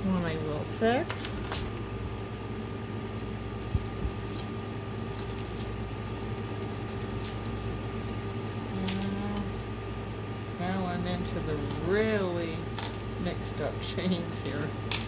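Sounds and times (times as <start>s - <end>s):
household appliance humming: 0.0s - 15.0s.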